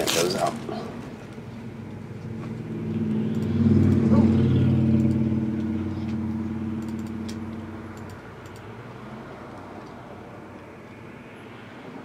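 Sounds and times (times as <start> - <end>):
low droning hum: 0.6 - 11.6.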